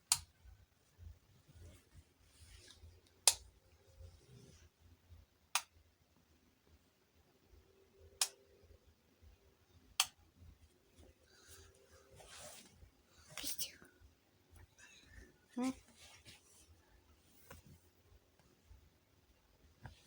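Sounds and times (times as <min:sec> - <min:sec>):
faint room noise: 0:00.0 - 0:20.0.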